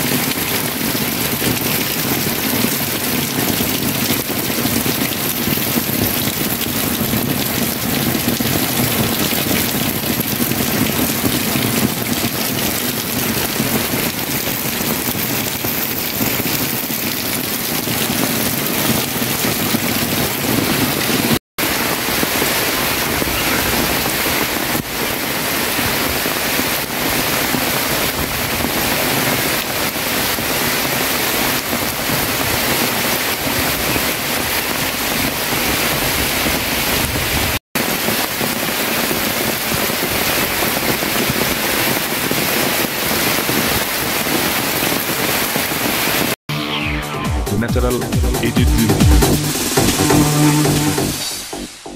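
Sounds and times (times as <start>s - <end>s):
heavy rain pouring: 0.0s - 46.4s, 47.0s - 51.9s.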